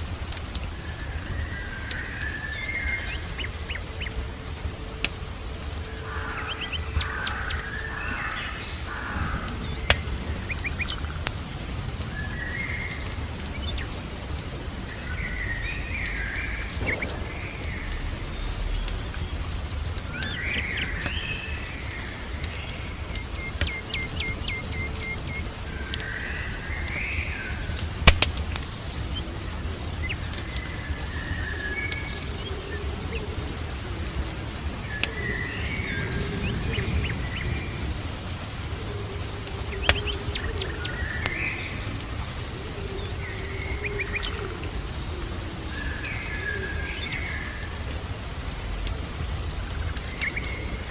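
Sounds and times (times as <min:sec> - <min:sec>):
songbirds chirping: 0:00.0 - 0:50.9
steady low rumble: 0:00.0 - 0:50.9
wood fire crackling and popping: 0:00.0 - 0:50.9.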